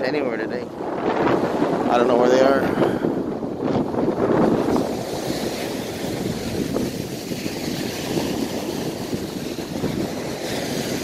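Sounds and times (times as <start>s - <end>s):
ocean surf washing on beach: 0.0s - 11.0s
wind buffeting microphone: 0.0s - 11.0s.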